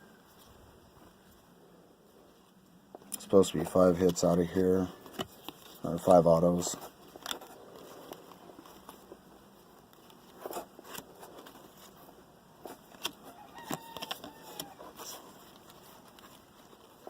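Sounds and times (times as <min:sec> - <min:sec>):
cards rustling and clicking: 0:02.6 - 0:17.0.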